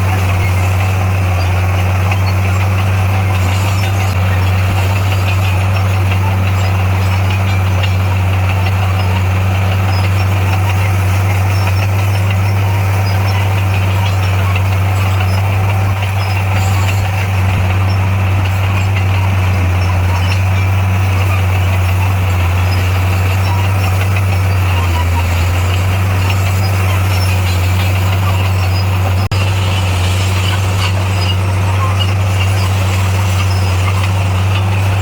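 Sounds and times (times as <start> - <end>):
diesel engine low drone: 0.0 - 35.0.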